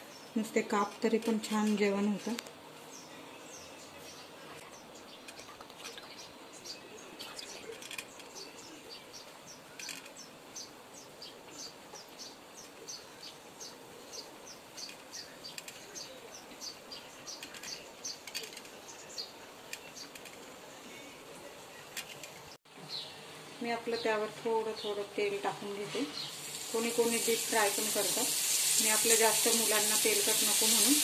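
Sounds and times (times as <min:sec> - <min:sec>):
small birds chirping faintly: 0:00.0 - 0:31.0.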